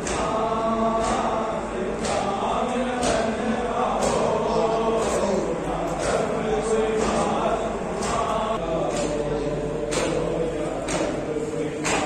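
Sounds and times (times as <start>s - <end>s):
men chanting: 0.0s - 12.0s
sharp beat striking: 0.0s - 12.0s.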